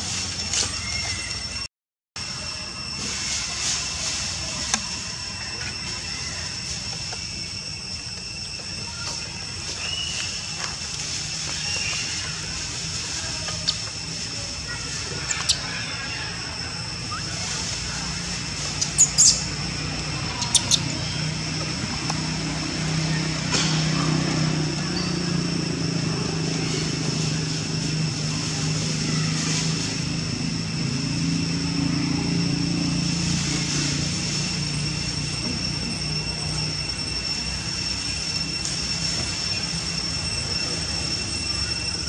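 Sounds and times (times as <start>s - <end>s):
distant engine drone: 0.0s - 42.0s
high-pitched whine: 0.0s - 42.0s.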